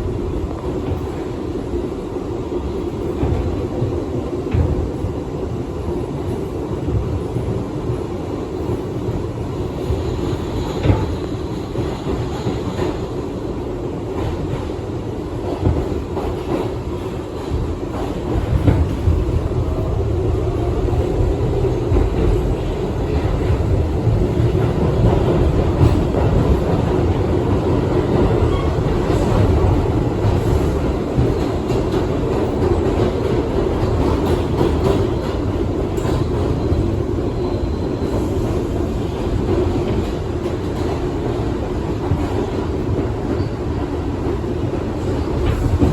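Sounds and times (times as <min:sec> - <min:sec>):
subway car wheels rumbling on rail: 0:00.0 - 0:45.9.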